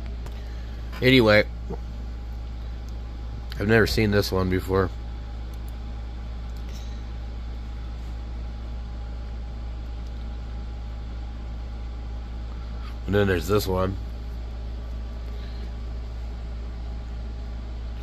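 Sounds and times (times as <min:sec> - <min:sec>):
low hum with hiss: 0:00.0 - 0:18.0.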